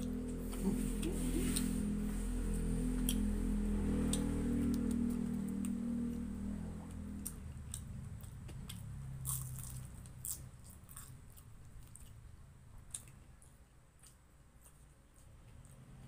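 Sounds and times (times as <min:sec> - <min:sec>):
crunching and chewing spring rolls: 0:02.5 - 0:16.0.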